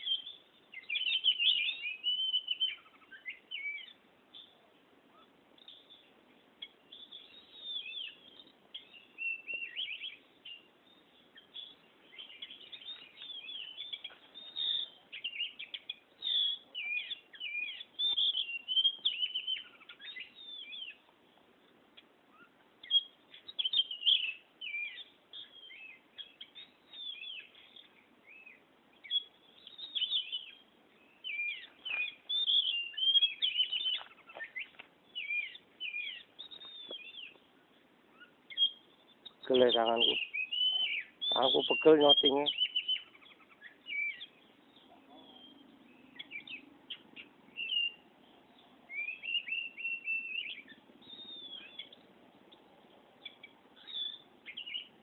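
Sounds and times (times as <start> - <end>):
magpie-robin singing: 0.0 - 21.4, 22.0 - 55.0.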